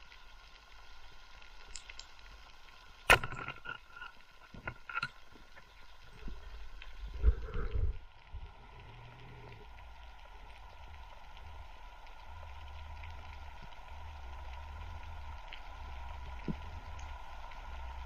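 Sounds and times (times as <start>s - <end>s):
faint constant hum: 0.0s - 18.0s
underwater rumble of water: 0.0s - 18.0s.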